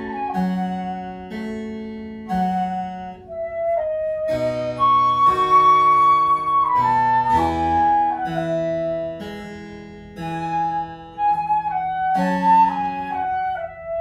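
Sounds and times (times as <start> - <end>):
lower accompaniment: 0.0 - 14.0
wooden flute melody: 0.0 - 14.0.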